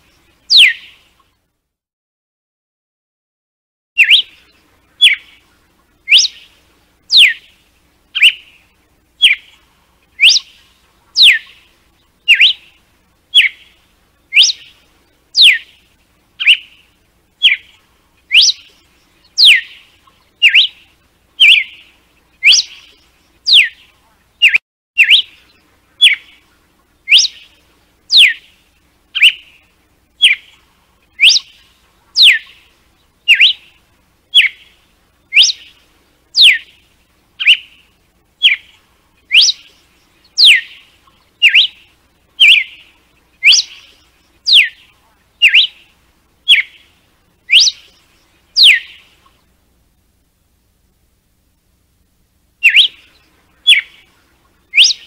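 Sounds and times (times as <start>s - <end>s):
bird whistled song: 0.0s - 1.2s, 4.0s - 49.4s, 52.6s - 55.0s.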